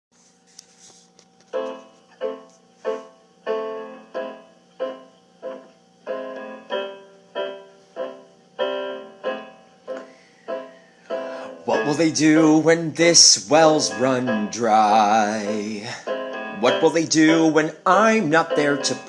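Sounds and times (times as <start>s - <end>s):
piano chords: 1.5s - 19.0s.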